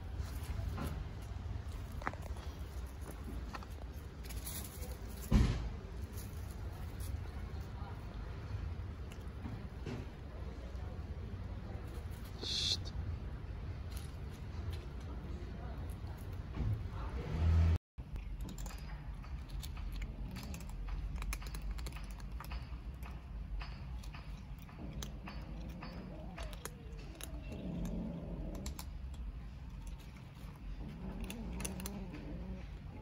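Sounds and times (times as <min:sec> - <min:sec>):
cats crunching dry kibble: 0:00.0 - 0:12.4, 0:18.1 - 0:33.0.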